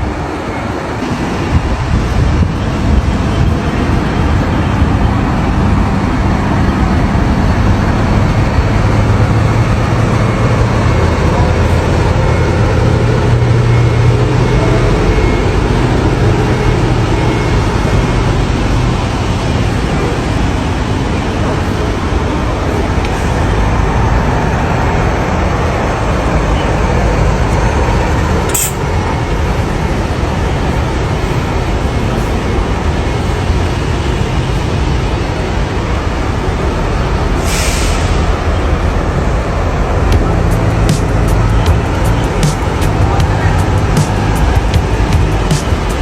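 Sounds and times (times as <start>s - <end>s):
bus engine droning: 0.0s - 46.0s
road and traffic noise: 0.0s - 46.0s.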